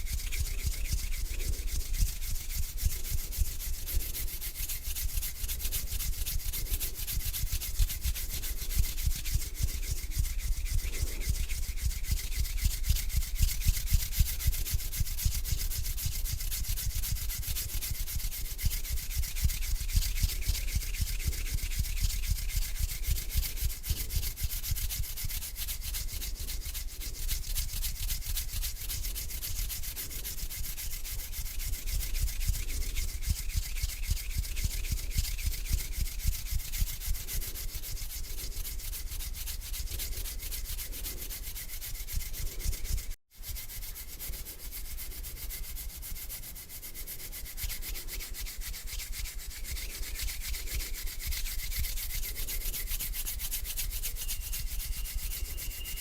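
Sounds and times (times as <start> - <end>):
hands rubbing together: 0.0 - 56.0.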